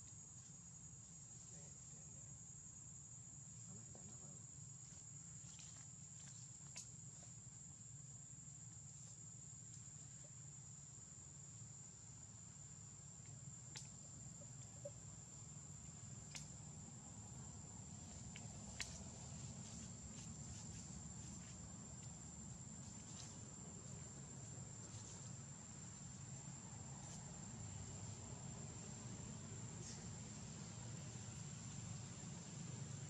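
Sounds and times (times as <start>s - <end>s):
high-pitched insect trill: 0.0s - 33.0s.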